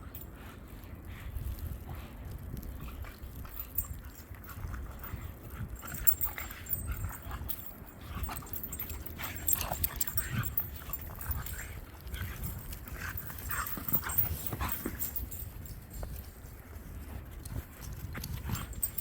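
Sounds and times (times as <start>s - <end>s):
dogs scuffling in snow: 0.4s - 19.0s.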